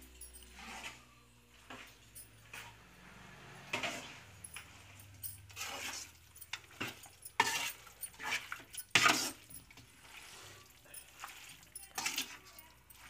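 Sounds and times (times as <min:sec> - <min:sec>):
metal spatula scraping a metal pan: 0:00.4 - 0:13.0.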